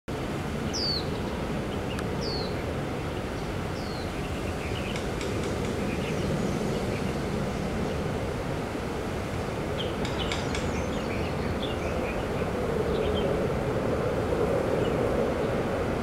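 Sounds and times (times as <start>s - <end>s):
distant jet engines droning: 0.1s - 16.0s.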